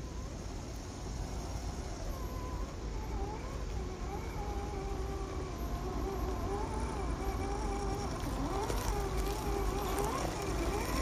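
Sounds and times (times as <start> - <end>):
electric motor and gear whine: 0.0 - 11.0.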